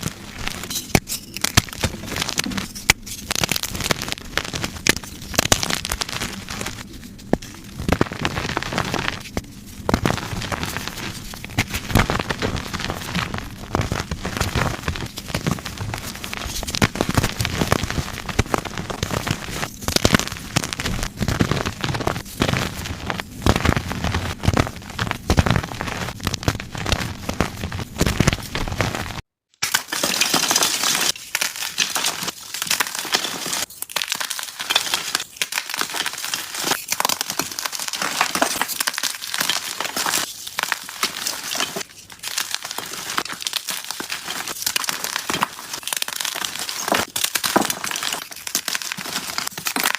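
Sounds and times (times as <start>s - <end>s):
chalk blocks crunching: 0.0s - 49.9s.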